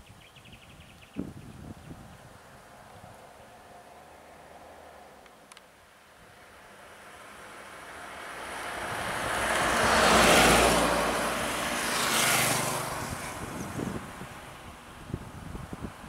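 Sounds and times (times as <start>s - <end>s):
vehicles driving past: 2.5s - 16.0s.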